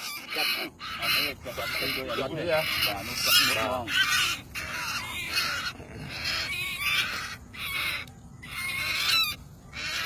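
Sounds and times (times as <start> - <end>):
harsh bird calls: 0.0 - 10.0.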